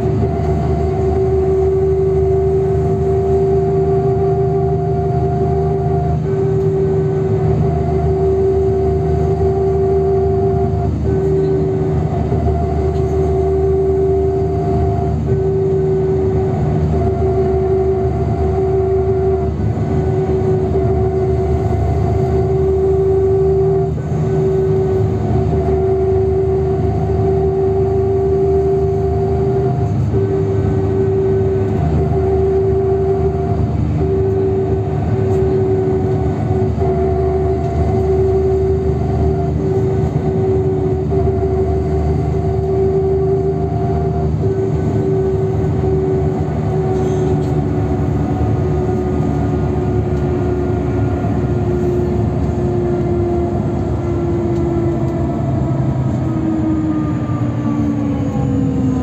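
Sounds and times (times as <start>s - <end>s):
bus engine and drivetrain hum: 0.0s - 59.0s
road rumble: 0.0s - 59.0s
steady whine: 0.0s - 59.0s.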